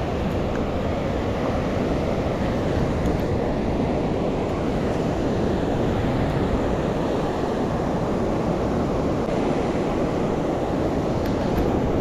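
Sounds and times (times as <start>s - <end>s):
river water rushing over a weir: 0.0s - 12.0s.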